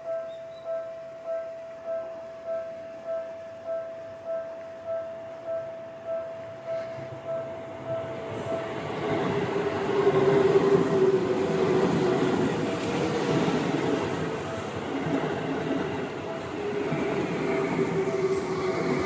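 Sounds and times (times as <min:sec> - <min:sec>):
level crossing alarm ringing: 0:00.0 - 0:19.0
train rumble: 0:00.0 - 0:19.0.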